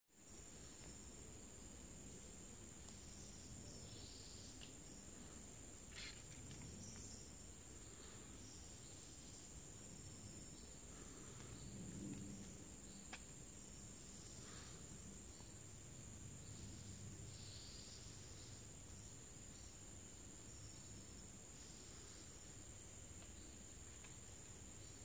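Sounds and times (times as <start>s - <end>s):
high-pitched insect trill: 0.2s - 25.0s.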